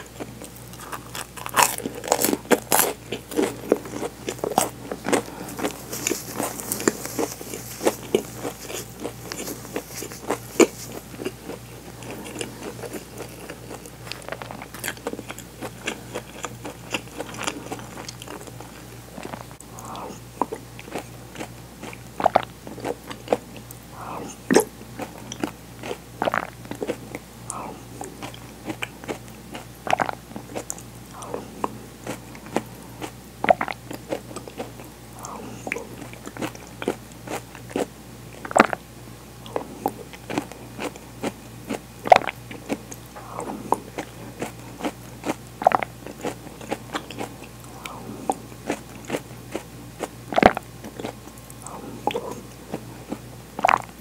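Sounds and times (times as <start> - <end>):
chewing crunchy toast: 0.0 - 54.0.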